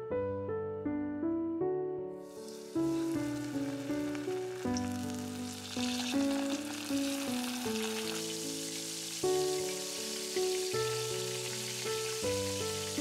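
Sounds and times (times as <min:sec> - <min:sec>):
background music: 0:01.4 - 0:13.0
fish sizzling in hot oil: 0:02.3 - 0:13.0.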